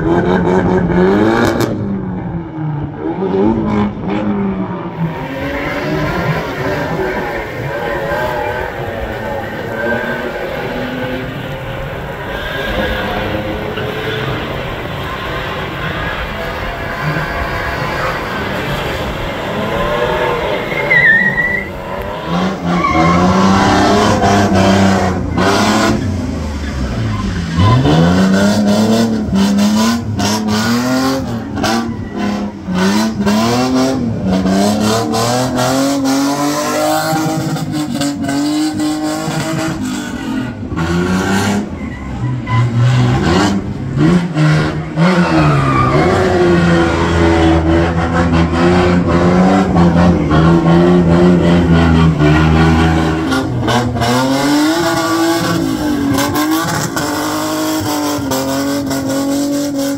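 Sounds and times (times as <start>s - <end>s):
car engine revving hard: 0.0s - 2.2s, 2.9s - 59.9s.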